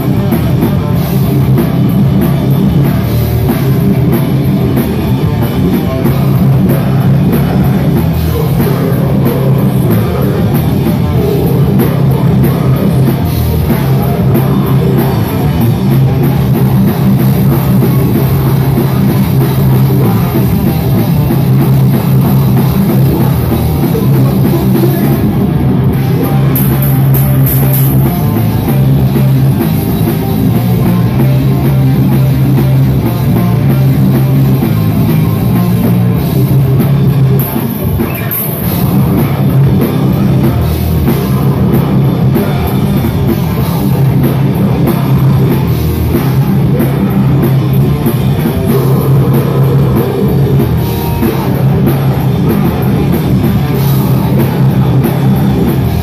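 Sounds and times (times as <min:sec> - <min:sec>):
distorted electric guitars: 0:00.0 - 0:56.0
drum kit: 0:00.0 - 0:56.0.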